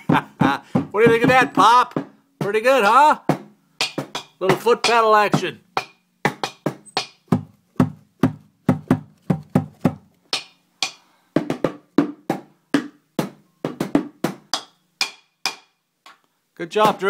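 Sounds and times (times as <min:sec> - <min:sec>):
drumsticks hitting containers: 0:00.7 - 0:02.6, 0:03.3 - 0:16.2, 0:16.8 - 0:17.0.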